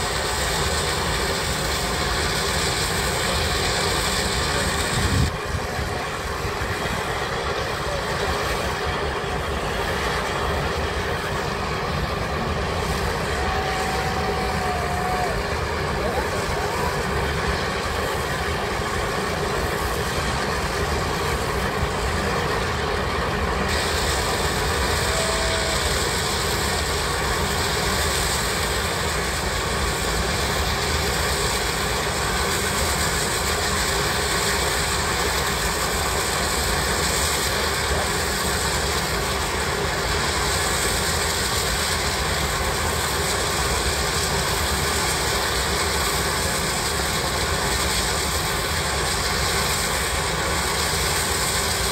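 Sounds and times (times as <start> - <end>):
steam shovel exhaust rushing: 0.0 - 51.9.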